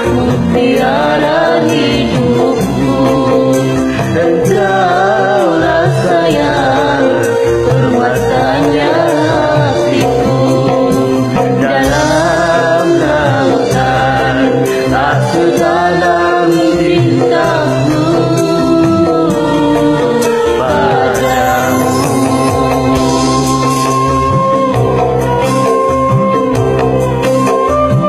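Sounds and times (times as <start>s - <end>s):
karaoke backing track: 0.0s - 28.0s
person singing with vibrato: 0.0s - 28.0s.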